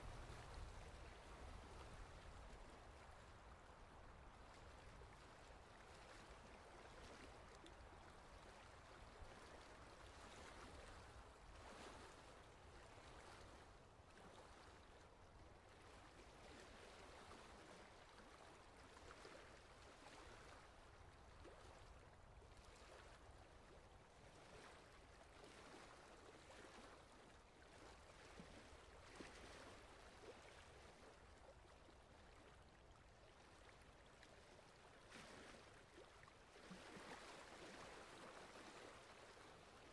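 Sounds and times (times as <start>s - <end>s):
water swishing and lapping: 0.0s - 39.9s.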